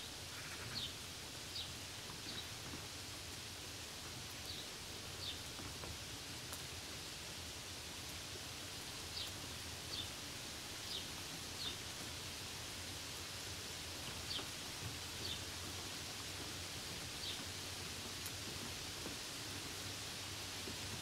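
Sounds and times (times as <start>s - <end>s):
falling rain hissing: 0.0s - 21.0s.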